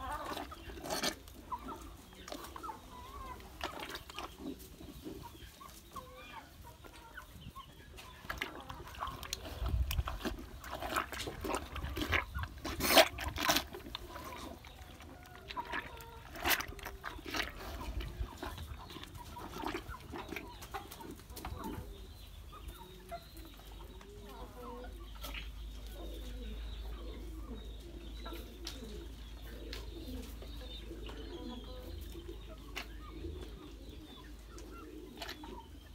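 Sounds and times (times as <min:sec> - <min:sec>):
chicken clucking: 0:00.0 - 0:35.9.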